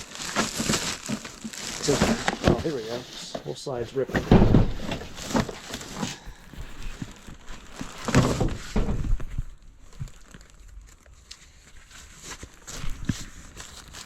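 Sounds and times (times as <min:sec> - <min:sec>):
packaging tearing and crinkling: 0:00.0 - 0:03.6, 0:04.6 - 0:14.0.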